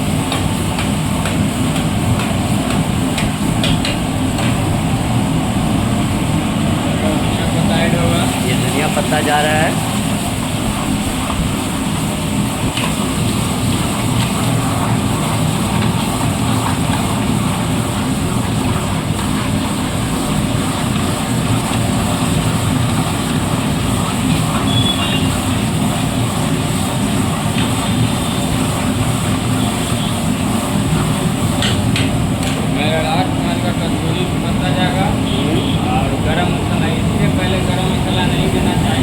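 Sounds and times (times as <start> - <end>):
gas burner and extraction roar: 0.0 - 39.0.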